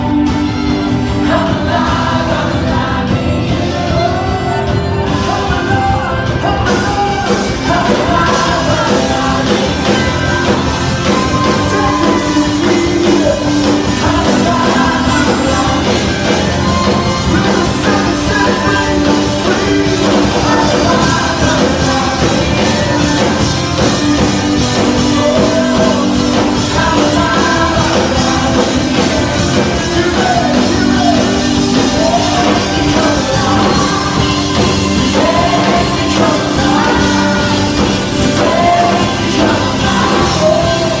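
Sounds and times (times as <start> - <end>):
live band playing: 0.0 - 41.0
voices singing: 0.0 - 41.0.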